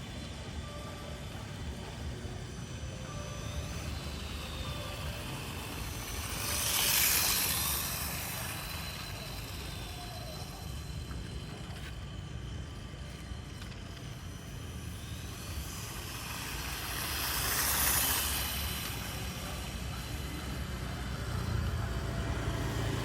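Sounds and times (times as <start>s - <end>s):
model motorcycle engine: 0.0s - 23.0s.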